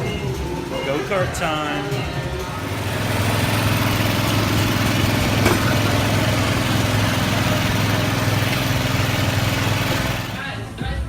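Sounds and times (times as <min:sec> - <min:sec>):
go-kart engine running: 0:00.0 - 0:10.6.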